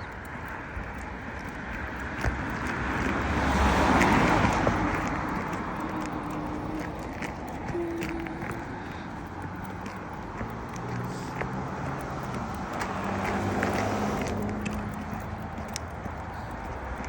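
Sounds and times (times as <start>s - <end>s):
vehicle driving past: 2.1s - 17.0s.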